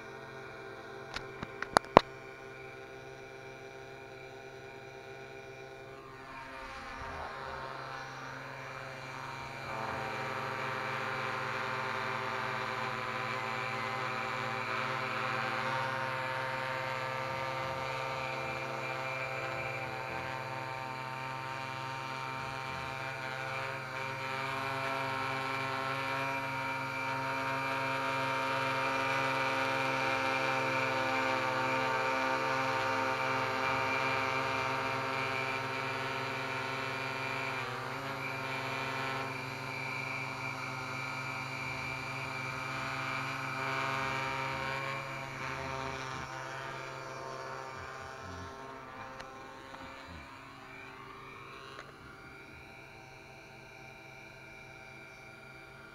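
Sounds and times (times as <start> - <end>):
quadcopter motors buzzing: 0.0 - 55.9.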